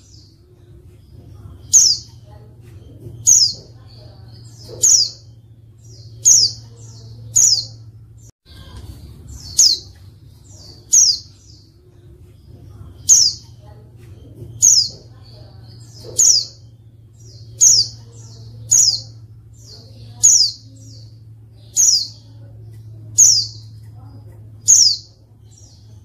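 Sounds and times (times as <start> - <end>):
bird chirping: 0.0 - 26.0
faint low hum: 0.0 - 26.0.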